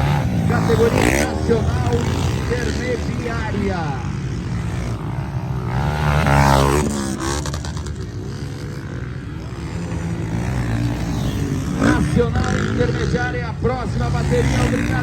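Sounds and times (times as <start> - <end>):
dirt bike engine revving hard: 0.0 - 15.0
distant dirt bike engines droning: 0.0 - 15.0.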